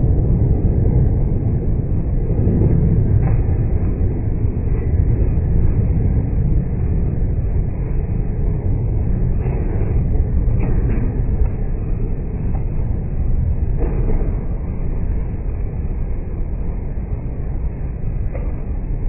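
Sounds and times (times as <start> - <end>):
storm wind: 0.0 - 19.0.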